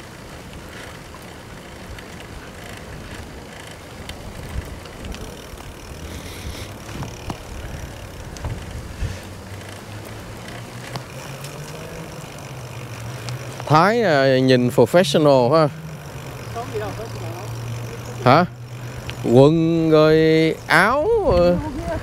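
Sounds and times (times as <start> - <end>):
bicycle tyre noise: 0.0 - 22.0
bike rattling over bumps: 0.0 - 22.0.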